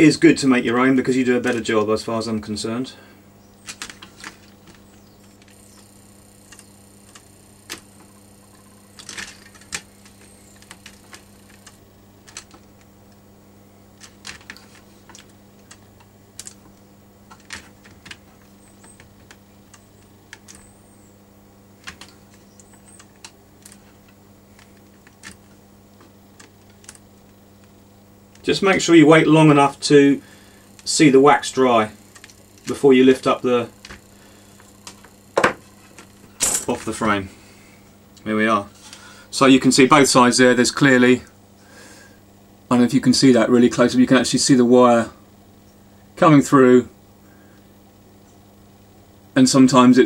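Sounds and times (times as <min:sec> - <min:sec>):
low electrical hum: 0:00.0 - 0:50.0.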